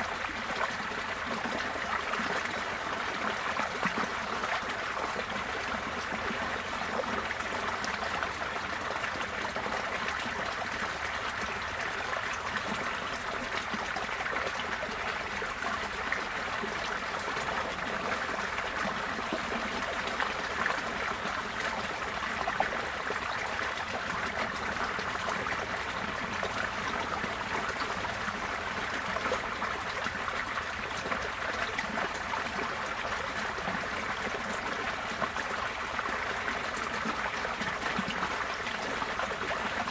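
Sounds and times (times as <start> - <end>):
floodwater rushing and trickling: 0.0 - 39.9.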